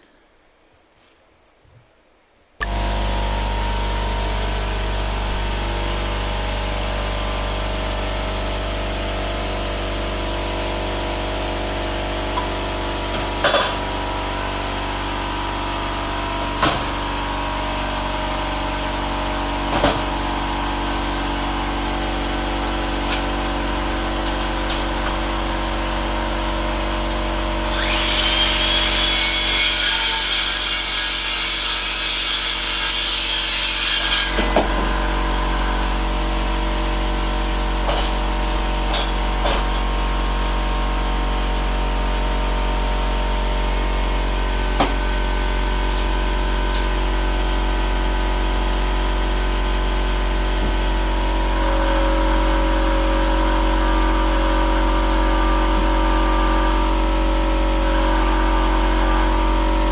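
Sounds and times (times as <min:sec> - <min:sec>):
air compressor running: 0:02.6 - 0:59.9
power saw cutting wood: 0:02.6 - 0:59.9.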